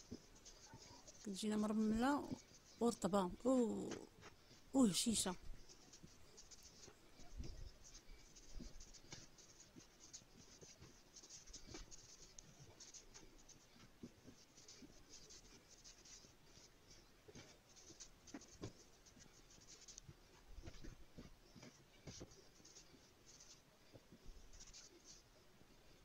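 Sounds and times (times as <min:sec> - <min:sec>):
hands rubbing flour in a dish: 0:00.0 - 0:25.2.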